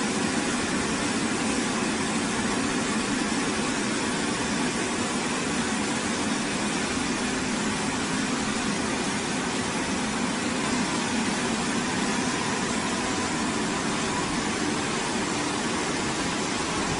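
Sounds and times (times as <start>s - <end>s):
car washing machine rushing: 0.0s - 16.9s.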